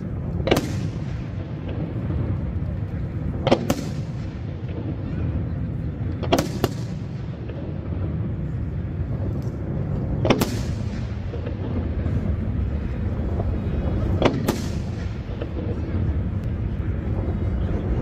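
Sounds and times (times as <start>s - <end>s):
firework bangs: 0.0s - 16.4s
steady low rumble: 0.0s - 18.0s.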